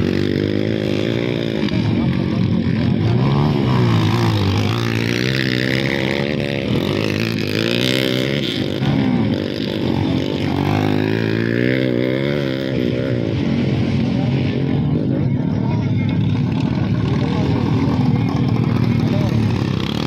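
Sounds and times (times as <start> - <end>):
motocross engines revving: 0.0 - 20.0.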